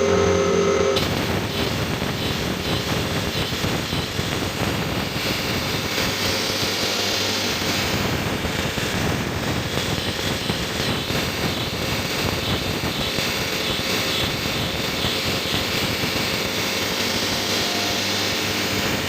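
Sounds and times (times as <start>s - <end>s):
cutter grinding metal: 0.0s - 19.0s
milling machine spindle whirring: 0.0s - 19.0s.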